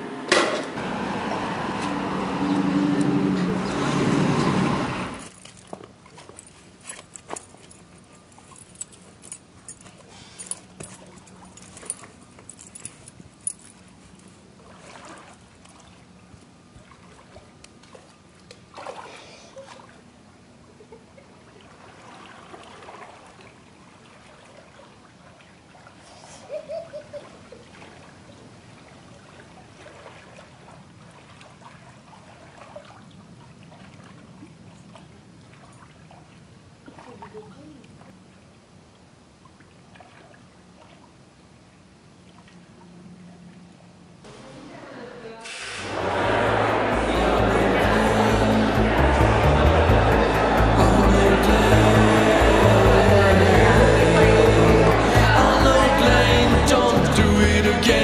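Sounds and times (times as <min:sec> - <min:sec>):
pool water lapping and splashing: 0:00.0 - 0:57.1.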